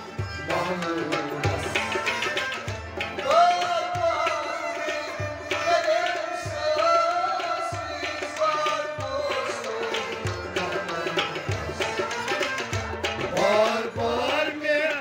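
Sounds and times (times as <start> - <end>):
harmonium: 0.0 - 15.0
man singing: 0.4 - 2.2, 3.1 - 12.4, 13.2 - 15.0.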